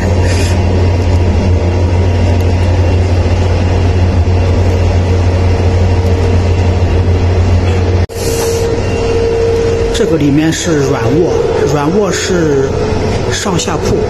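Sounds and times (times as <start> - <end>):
train running noise from inside: 0.0 - 14.0.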